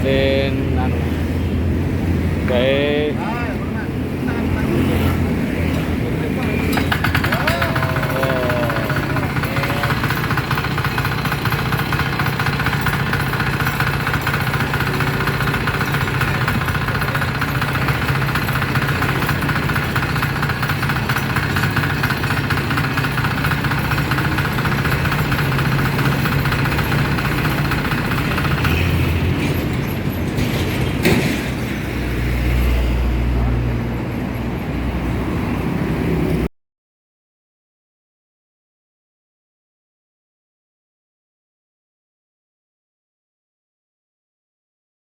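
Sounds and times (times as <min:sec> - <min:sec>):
diesel engine running: 0:00.0 - 0:36.5.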